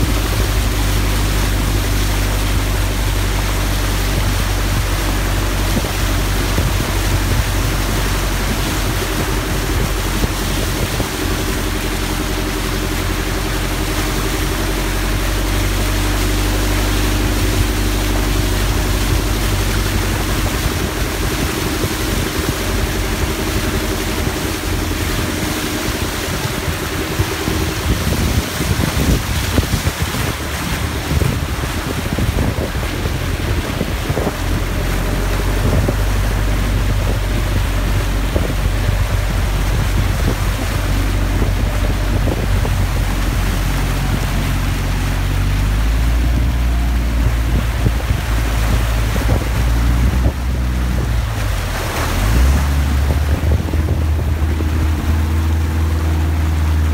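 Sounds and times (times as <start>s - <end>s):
floodwater rushing and splashing: 0.0s - 56.9s
steady low rumble: 0.0s - 56.9s.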